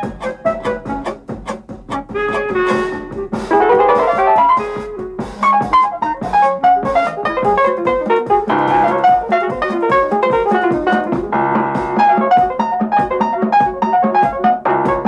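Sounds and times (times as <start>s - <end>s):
lively piano music: 0.0s - 15.0s.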